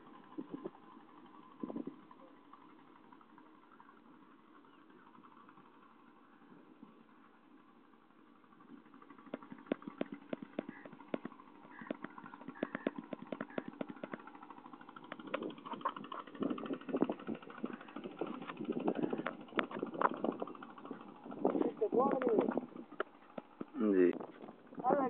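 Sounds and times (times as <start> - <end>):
jumble of noise: 0.0 - 4.0, 8.4 - 25.0
small engine knocking: 0.0 - 25.0.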